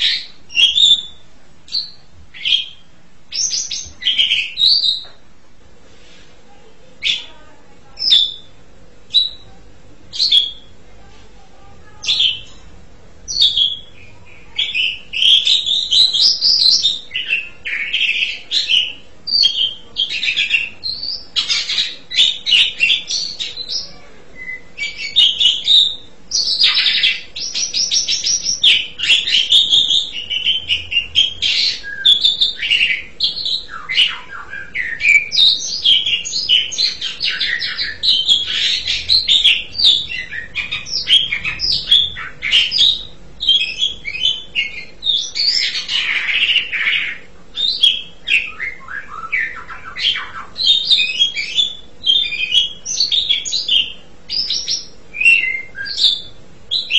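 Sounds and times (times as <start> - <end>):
starling whistles and chattering: 8.0 - 10.8, 13.3 - 56.9.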